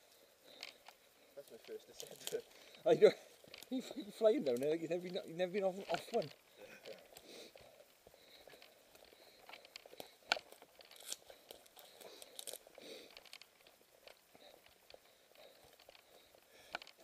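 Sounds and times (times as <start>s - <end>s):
bike clicks and rattles: 0.4s - 17.0s
bike tyres crunching on dirt: 1.4s - 17.0s.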